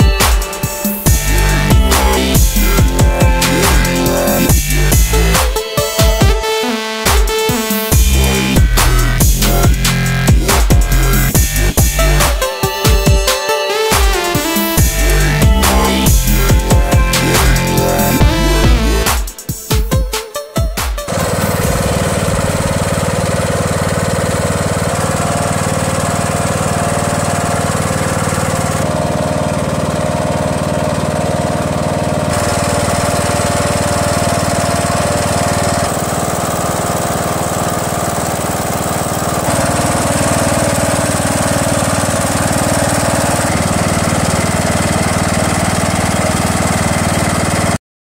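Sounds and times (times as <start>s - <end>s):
lawn tractor engine running: 0.0s - 19.5s, 21.1s - 47.8s.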